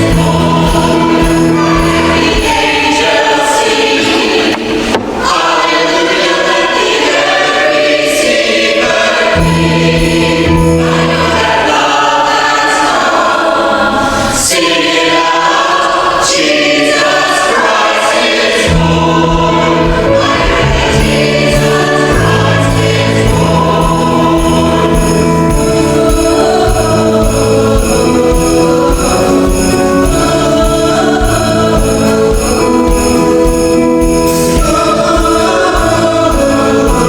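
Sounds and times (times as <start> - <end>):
church choir singing: 0.0 - 37.0.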